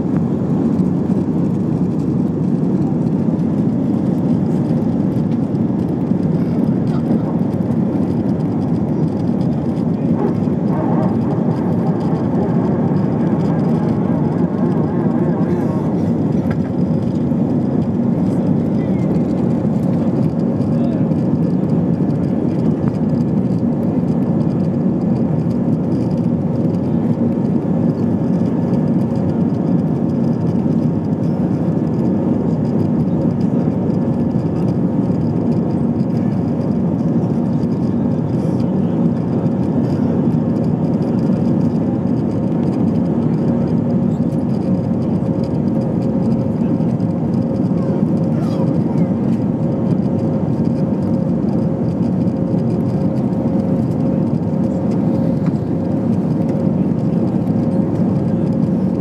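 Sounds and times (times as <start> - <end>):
airplane cabin engine noise: 0.0 - 59.0.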